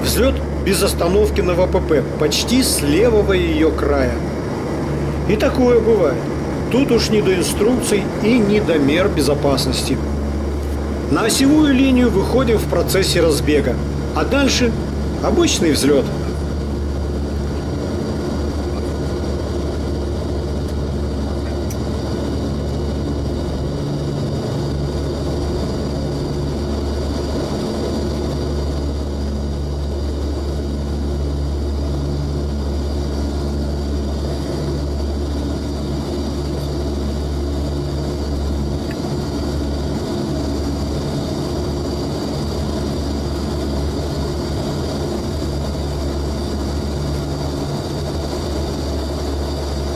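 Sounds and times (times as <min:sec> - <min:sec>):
loud propeller drone: 0:00.0 - 0:49.9.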